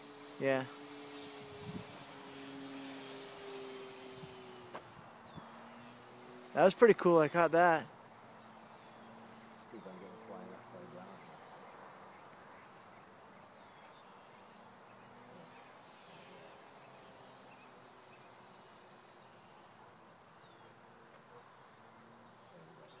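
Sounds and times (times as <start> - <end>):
small electric motor whine: 0.0 - 23.0.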